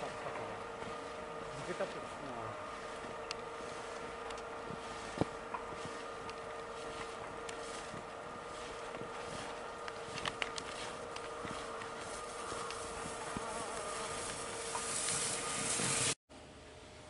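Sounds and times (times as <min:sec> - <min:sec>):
skis carving over snow: 0:00.0 - 0:16.2
droning hum: 0:00.0 - 0:17.0.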